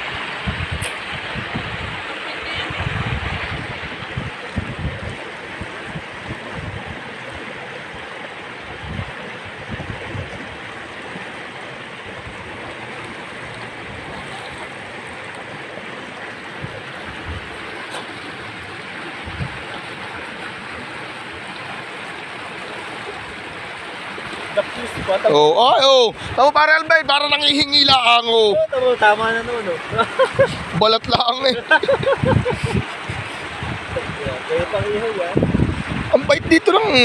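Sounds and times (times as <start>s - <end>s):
river water rushing over rocks: 0.0s - 37.0s.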